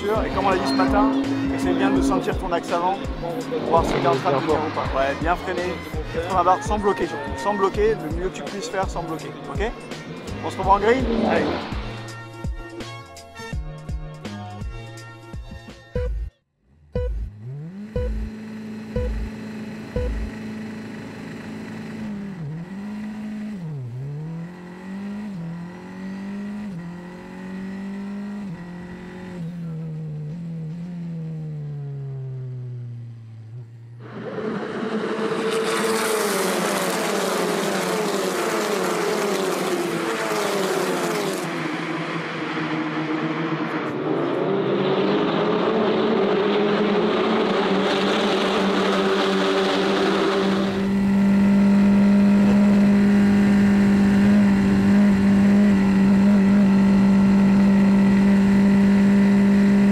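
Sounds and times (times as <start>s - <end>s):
race cars running past: 0.0s - 12.3s, 17.4s - 59.9s
race car engine revving: 0.0s - 13.1s, 16.7s - 59.9s.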